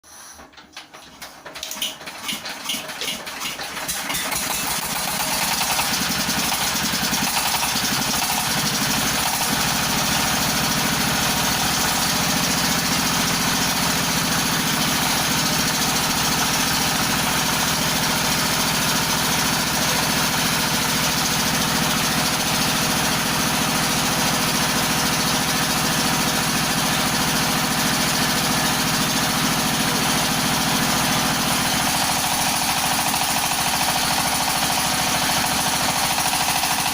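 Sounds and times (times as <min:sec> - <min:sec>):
feed pellet machine droning: 0:00.0 - 0:36.9.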